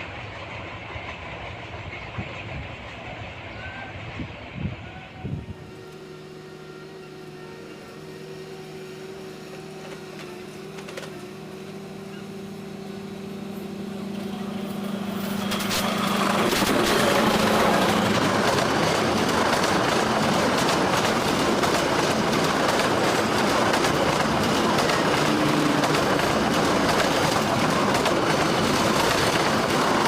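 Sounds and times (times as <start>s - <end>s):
train engine drone: 0.0s - 30.0s
train wheels rumbling on rails: 0.0s - 30.0s.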